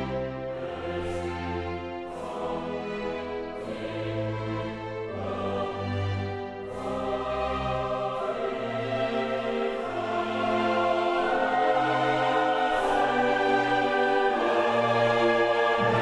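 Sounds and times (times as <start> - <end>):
music of long held chords: 0.0 - 16.0.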